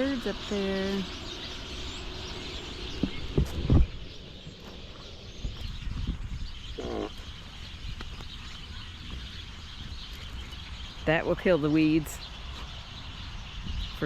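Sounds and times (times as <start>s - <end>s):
flock of birds chattering: 0.0s - 14.0s.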